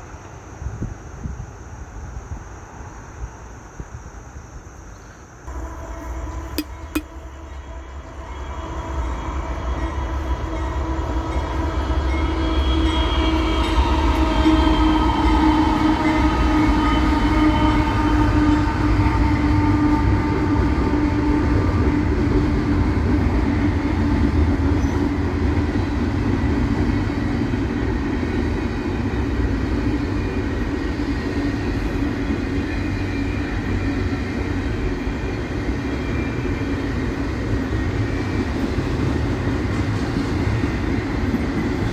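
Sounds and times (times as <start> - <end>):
train whine: 5.3 - 41.9
freight train rumble: 5.5 - 41.9.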